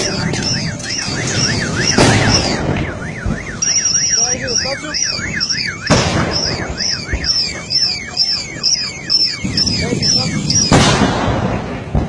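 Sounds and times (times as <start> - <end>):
loud explosion blast: 0.0 - 4.0, 5.0 - 12.0
car alarms wailing: 0.0 - 10.9.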